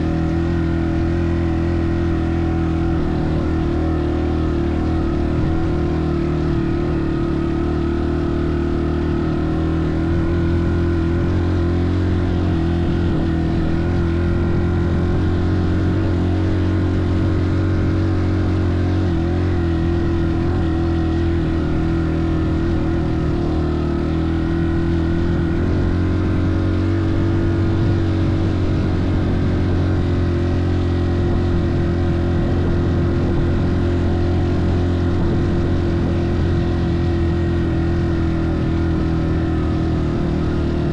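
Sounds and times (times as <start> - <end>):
motor droning steadily: 0.0 - 40.9.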